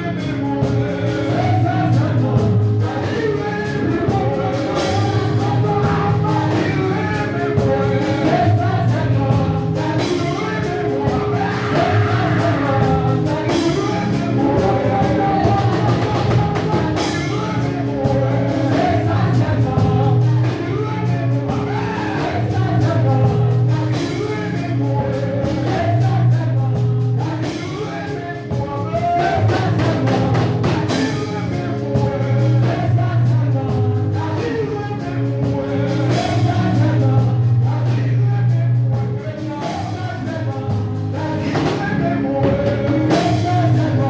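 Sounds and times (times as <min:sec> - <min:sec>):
amplified band accompaniment: 0:00.0 - 0:44.0
man singing gospel song: 0:00.0 - 0:44.0.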